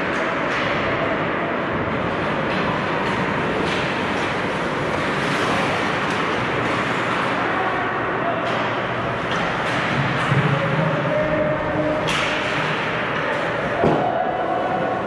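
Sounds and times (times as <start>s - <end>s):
players' voices: 0.0s - 15.0s.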